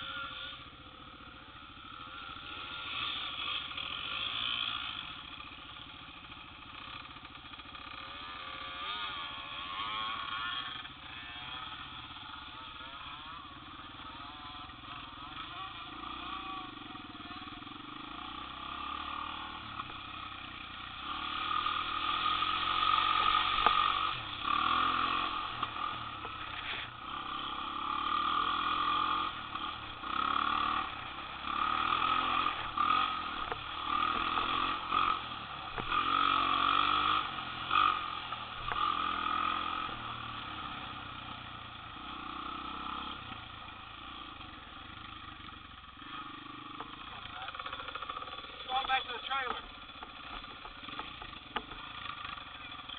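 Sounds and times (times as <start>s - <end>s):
off-road vehicle engines revving: 0.0s - 52.9s.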